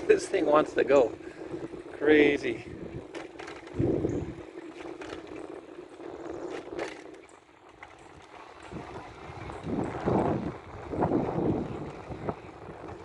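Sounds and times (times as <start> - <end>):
tyre and wind rush: 0.0 - 7.4, 8.4 - 13.0
bike clicks and rattles: 0.0 - 13.0.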